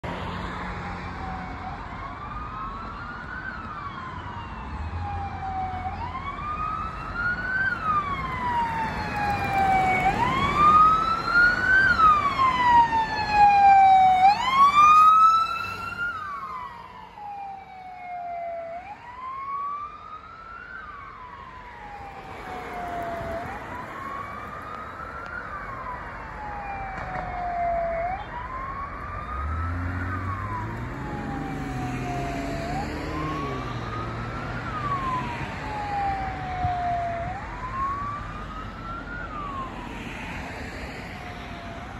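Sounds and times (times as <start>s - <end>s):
fire truck siren wailing: 0.2s - 41.9s.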